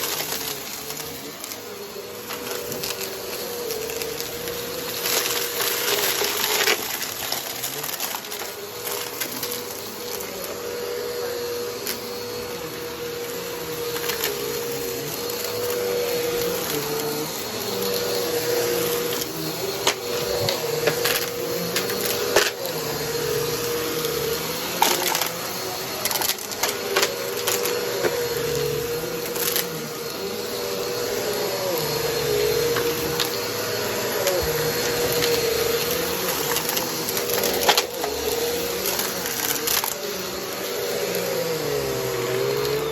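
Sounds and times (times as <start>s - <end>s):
vacuum cleaner whine: 0.0s - 42.9s.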